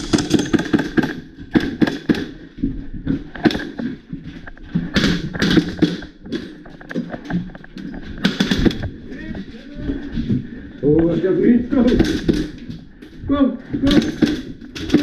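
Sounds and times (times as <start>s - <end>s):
knocks and clatter: 0.0s - 9.4s, 11.0s - 12.9s, 13.7s - 15.0s.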